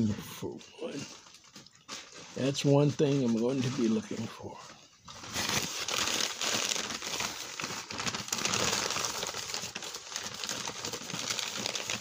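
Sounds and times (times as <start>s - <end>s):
packaging crinkling and rustling: 0.4s - 12.0s.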